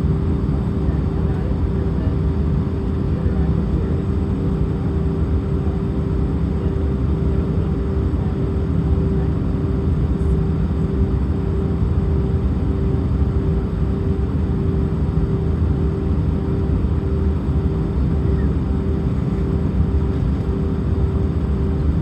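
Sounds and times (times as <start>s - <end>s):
constant hum: 0.0s - 22.0s
jet engine and airflow rumble: 0.0s - 22.0s.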